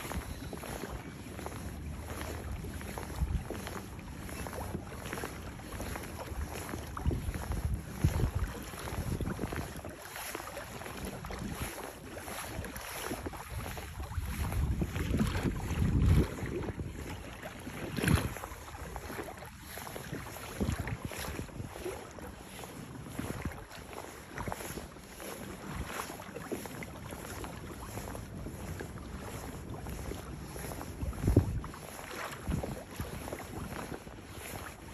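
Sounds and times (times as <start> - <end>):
water lapping against kayak hull: 0.0 - 34.9
wind buffeting microphone: 0.0 - 34.9.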